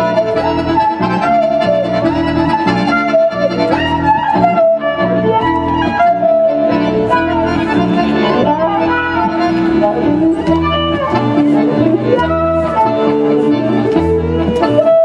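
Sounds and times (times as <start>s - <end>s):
accordion chords and melody: 0.0s - 15.0s
double bass low held notes: 0.0s - 15.0s
violin: 0.0s - 15.0s.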